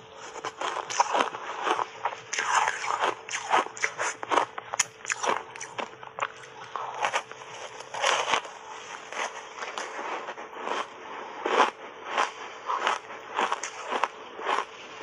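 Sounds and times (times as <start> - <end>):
ice crunching between teeth: 0.2 - 15.0.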